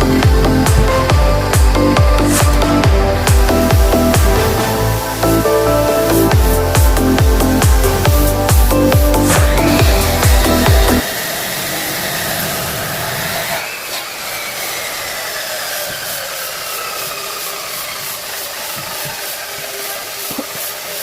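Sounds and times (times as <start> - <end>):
power tool motor whine: 0.0 - 21.0.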